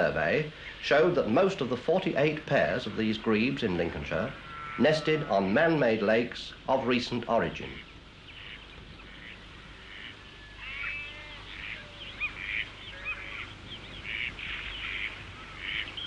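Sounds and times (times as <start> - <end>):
faint hiss: 0.0 - 16.0
waterbirds calling: 0.0 - 16.0.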